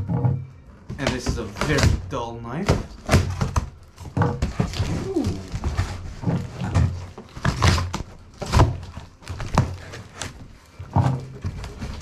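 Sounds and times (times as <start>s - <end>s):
cardboard being cut and torn: 1.0s - 12.0s.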